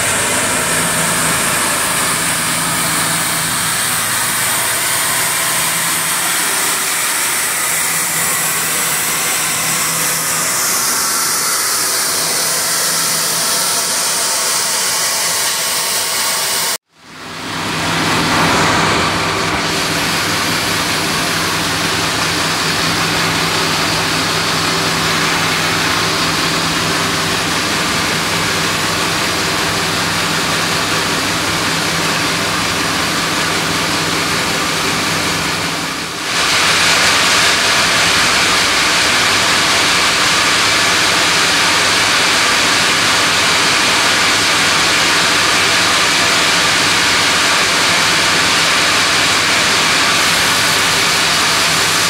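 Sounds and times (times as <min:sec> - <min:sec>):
sawmill machinery running: 0:00.0 - 0:52.0.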